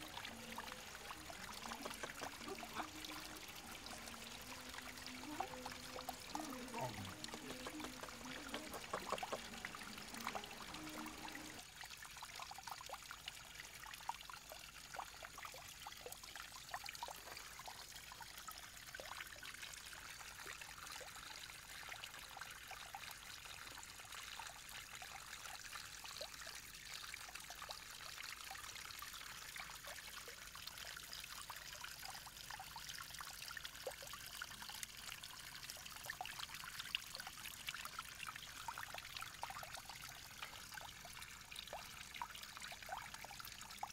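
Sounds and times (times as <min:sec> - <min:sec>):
fountain water trickling onto rocks: 0:00.0 - 0:43.9.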